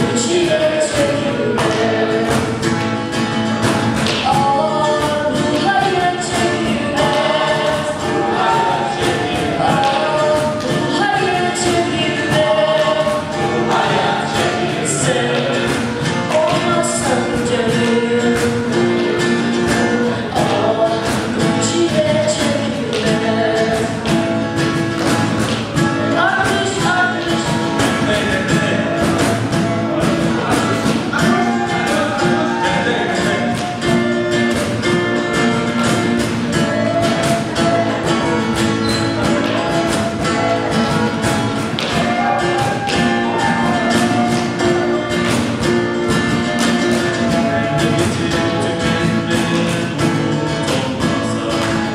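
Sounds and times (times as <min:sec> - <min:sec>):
music with steady beat: 0:00.0 - 0:51.9
voices singing together: 0:00.0 - 0:51.9.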